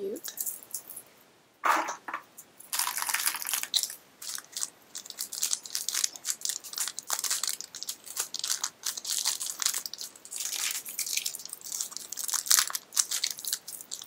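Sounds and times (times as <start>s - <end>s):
wrapper crinkling and tearing: 2.7s - 14.0s.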